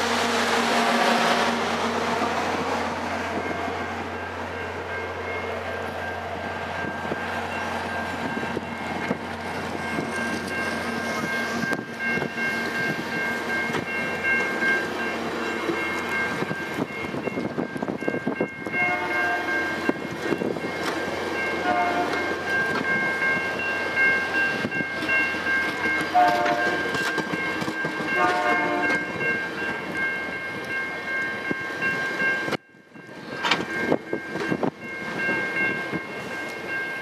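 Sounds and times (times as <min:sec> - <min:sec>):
train wheels clattering on rails: 0:00.7 - 0:30.0, 0:31.9 - 0:37.0.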